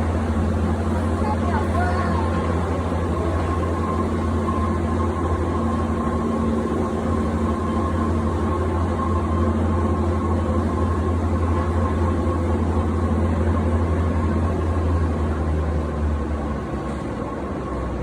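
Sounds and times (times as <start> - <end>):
funicular car hum and rumble: 0.0 - 18.0
thin steady whine: 0.0 - 18.0.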